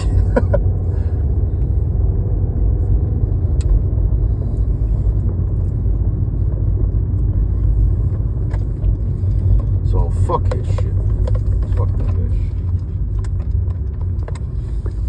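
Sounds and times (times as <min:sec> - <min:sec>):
car interior low rumble: 0:00.0 - 0:15.0.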